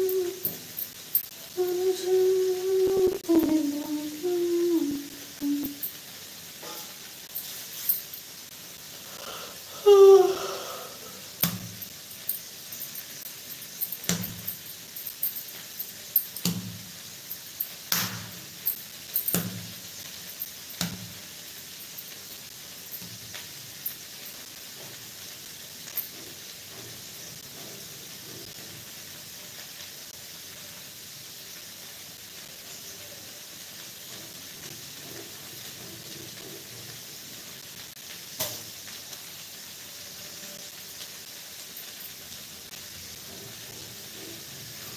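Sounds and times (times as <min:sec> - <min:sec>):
faint steady hiss: 0:00.0 - 0:44.9.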